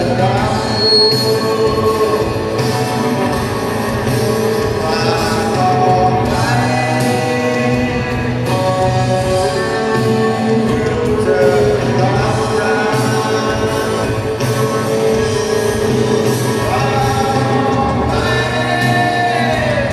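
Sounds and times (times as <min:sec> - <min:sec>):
drums: 0:00.0 - 0:19.9
electric guitars: 0:00.0 - 0:19.9
person singing: 0:00.0 - 0:19.9.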